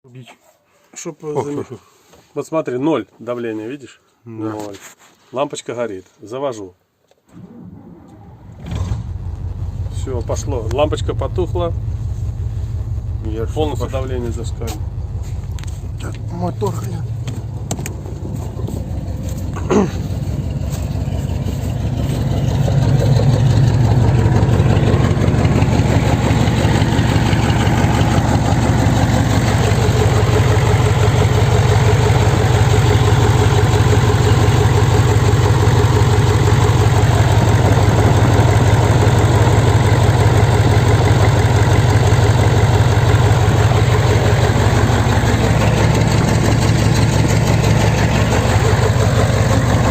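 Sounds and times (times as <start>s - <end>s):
diesel engine idling: 7.3s - 49.9s.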